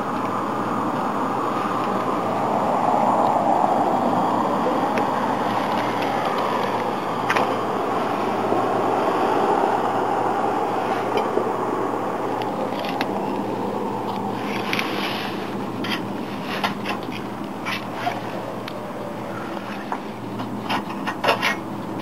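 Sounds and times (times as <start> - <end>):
low hum: 0.0 - 20.7.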